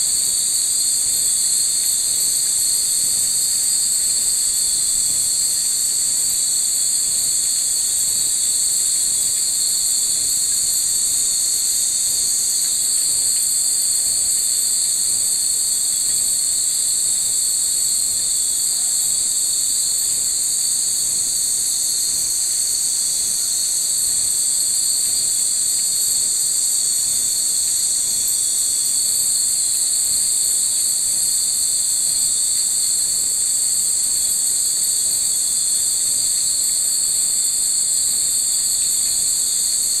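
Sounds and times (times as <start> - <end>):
night insects chorus: 0.0 - 40.0.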